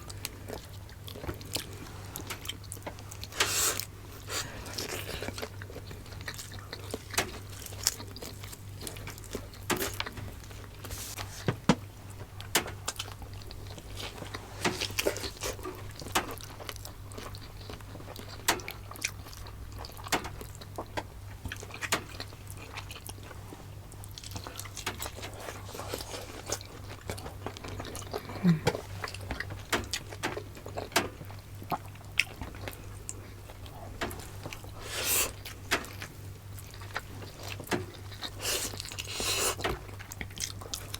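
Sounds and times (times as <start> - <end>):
people chewing and smacking: 0.0 - 40.9.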